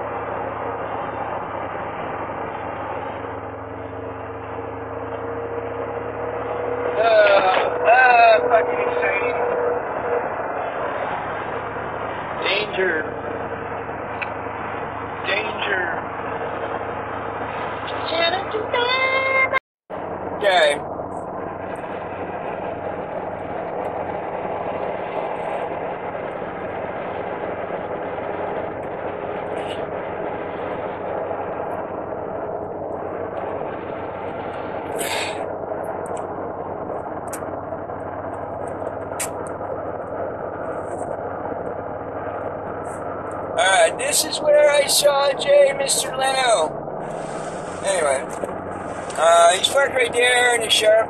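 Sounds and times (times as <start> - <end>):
car engine and tyre drone: 0.0 - 51.0.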